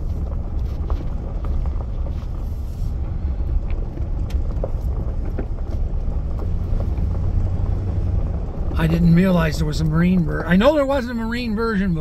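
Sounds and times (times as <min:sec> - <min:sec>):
truck engine and tyres on gravel: 0:00.0 - 0:12.0.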